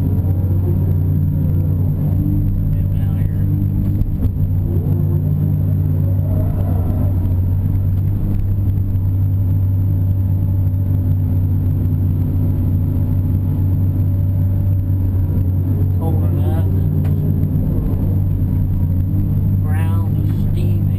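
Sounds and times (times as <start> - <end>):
excavator diesel engine droning: 0.0 - 20.9.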